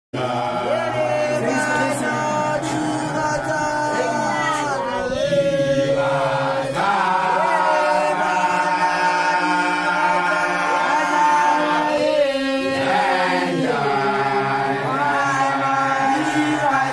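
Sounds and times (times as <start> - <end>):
chanting voices with long notes: 0.2 - 16.9.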